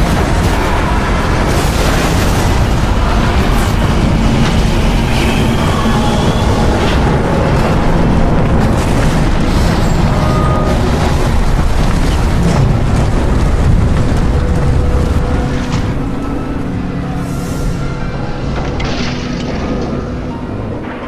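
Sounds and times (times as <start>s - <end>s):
deep rumble: 0.0s - 21.0s.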